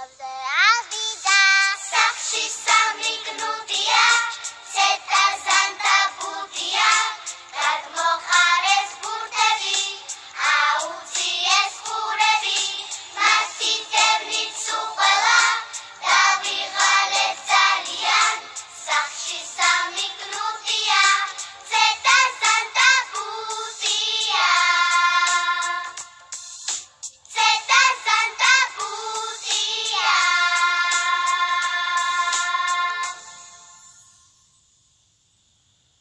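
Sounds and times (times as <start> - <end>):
girls singing: 0.9 - 26.0, 27.4 - 33.3
backing track: 1.3 - 33.6.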